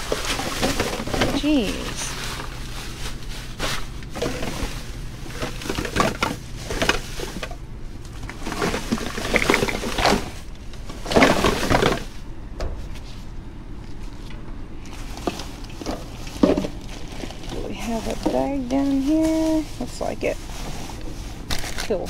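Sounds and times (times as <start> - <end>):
low steady hum: 0.0 - 22.0
plastic trash bags rustling: 0.0 - 22.0.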